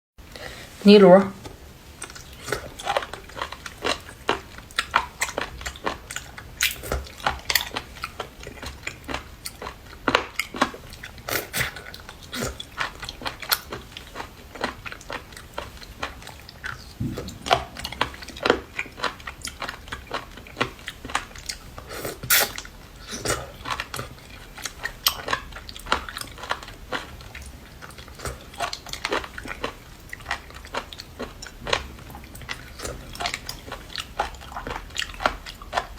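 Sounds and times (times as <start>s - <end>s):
person chewing crunchy seafood: 1.9s - 35.9s.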